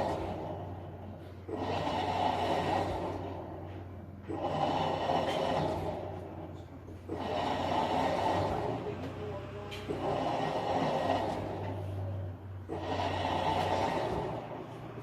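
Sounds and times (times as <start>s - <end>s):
washer-dryer rushing sound: 0.0s - 15.0s.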